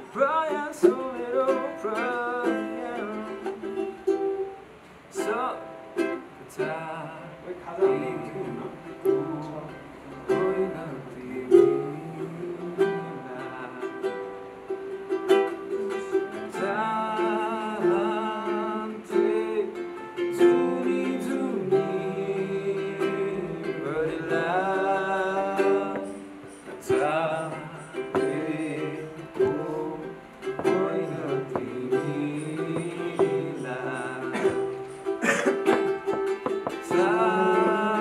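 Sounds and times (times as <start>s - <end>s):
person singing: 0.0s - 4.5s, 5.1s - 38.0s
strummed string instrument: 0.0s - 38.0s.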